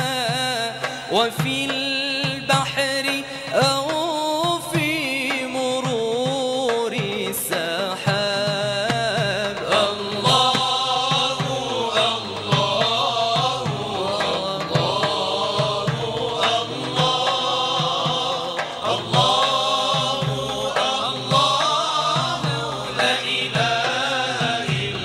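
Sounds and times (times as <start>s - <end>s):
person singing devotional chant: 0.0s - 25.0s.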